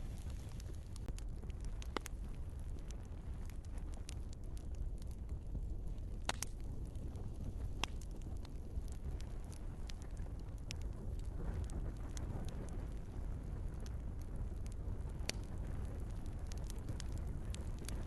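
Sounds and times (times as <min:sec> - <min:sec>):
fire flames rumbling: 0:00.0 - 0:18.0
logs crackling and popping: 0:00.0 - 0:18.0.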